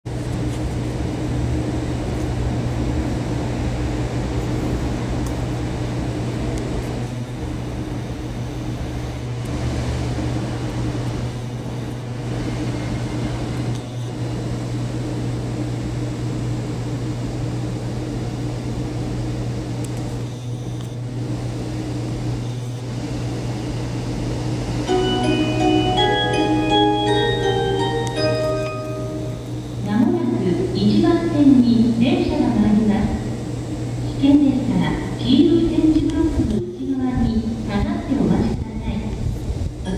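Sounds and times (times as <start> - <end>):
low mechanical hum: 0.1 - 39.9.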